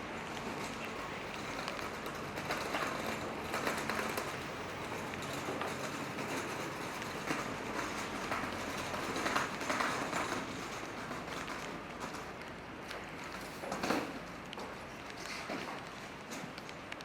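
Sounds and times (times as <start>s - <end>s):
rainy city street ambience: 0.0s - 17.0s.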